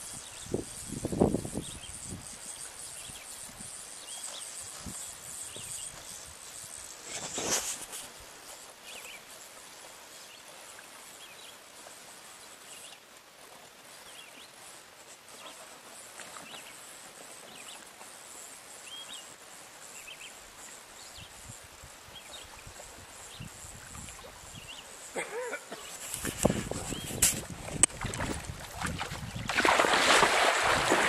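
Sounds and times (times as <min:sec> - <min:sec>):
steady high hiss: 0:00.0 - 0:31.0.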